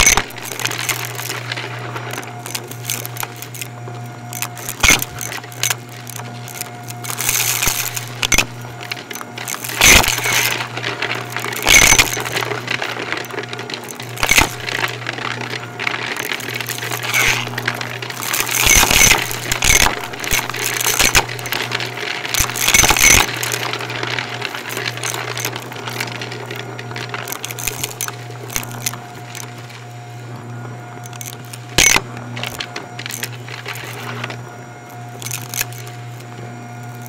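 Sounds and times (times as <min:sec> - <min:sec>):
debris clicking and clattering: 0:00.0 - 0:30.0, 0:31.0 - 0:37.0
vacuum cleaner humming: 0:00.0 - 0:37.0.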